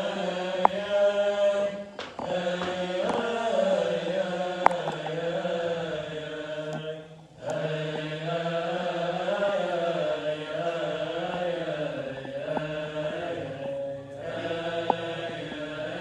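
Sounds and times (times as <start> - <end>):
voices chanting a hymn: 0.0 - 16.0.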